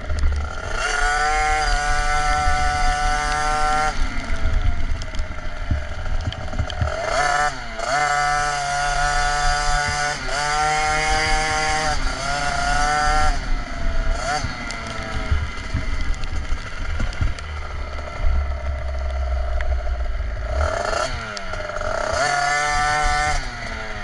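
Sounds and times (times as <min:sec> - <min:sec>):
low rumble of wind: 0:00.0 - 0:24.0
small two-stroke engine revving: 0:00.0 - 0:24.0.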